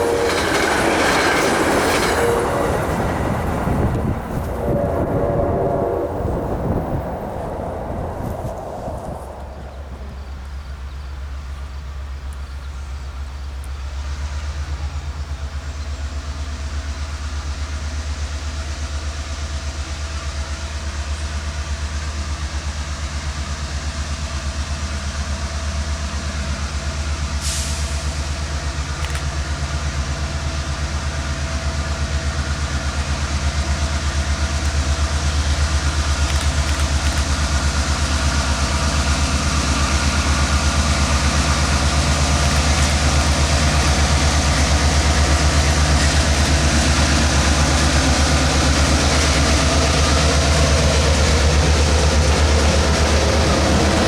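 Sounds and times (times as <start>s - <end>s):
locomotive engine droning: 0.0s - 54.0s.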